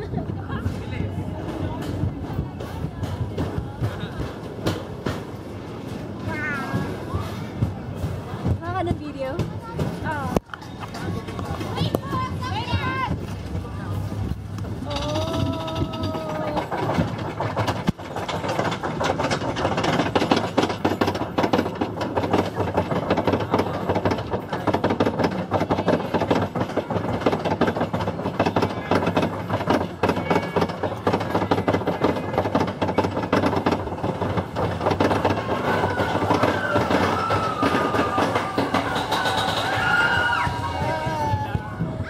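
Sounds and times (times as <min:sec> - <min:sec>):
roller coaster rattling on track: 0:00.0 - 0:42.0
voices: 0:00.0 - 0:42.0.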